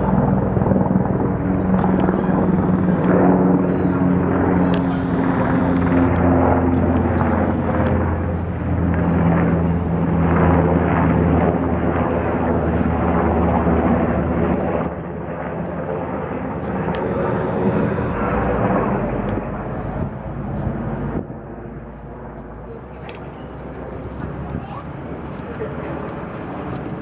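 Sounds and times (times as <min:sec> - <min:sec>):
turbine hum: 0:00.0 - 0:12.2, 0:15.1 - 0:27.0
helicopter rotor beat: 0:00.0 - 0:27.0.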